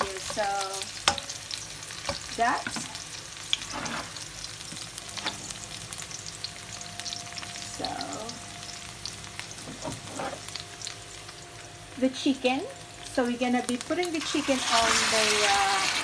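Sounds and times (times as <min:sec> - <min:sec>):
onions sizzling in a pan: 0:00.0 - 0:16.0.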